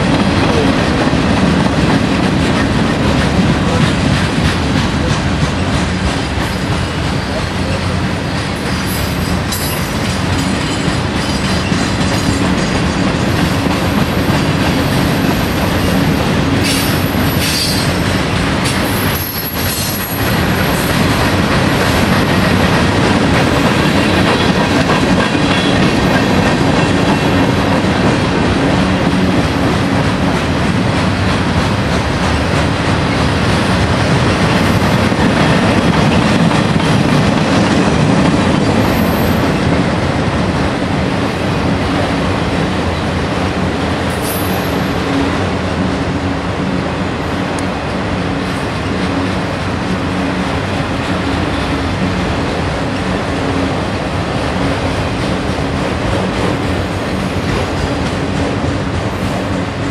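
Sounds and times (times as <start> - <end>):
freight train cars rolling: 0.0 - 59.9.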